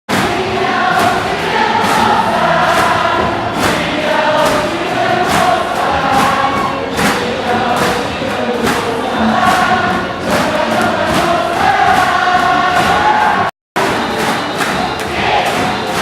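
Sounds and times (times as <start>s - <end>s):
crowd singing in unison: 0.1s - 16.0s
sharp rhythmic hits: 0.1s - 16.0s.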